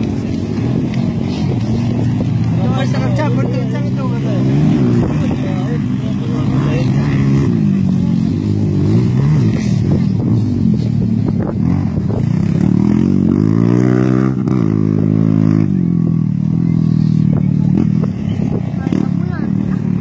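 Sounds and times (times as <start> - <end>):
quad bike engine accelerating: 0.0 - 20.0.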